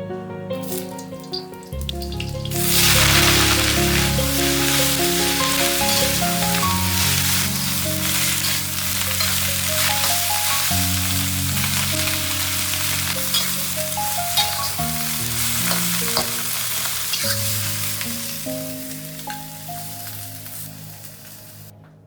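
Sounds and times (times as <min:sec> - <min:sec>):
slow background music: 0:00.0 - 0:22.0
food sizzling in a pan: 0:00.7 - 0:21.7.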